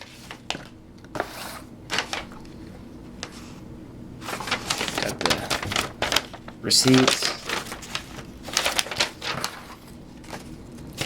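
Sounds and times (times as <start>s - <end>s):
paper and cardboard rustling: 0.0s - 3.6s, 4.2s - 11.0s.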